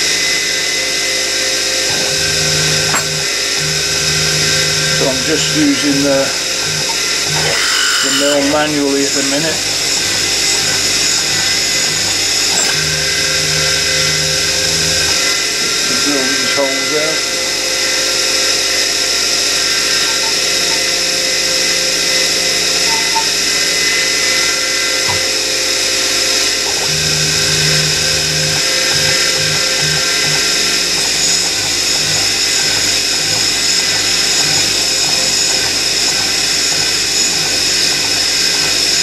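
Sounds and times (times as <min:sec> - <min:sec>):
drill cutting aluminium: 0:00.0 - 0:39.0
spindle motor whine: 0:00.0 - 0:39.0.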